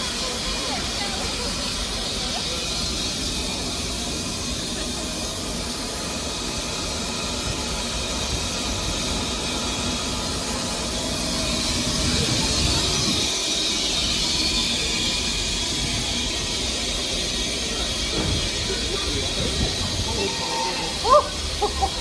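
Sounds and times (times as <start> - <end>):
steam hissing from locomotive: 0.0 - 22.0.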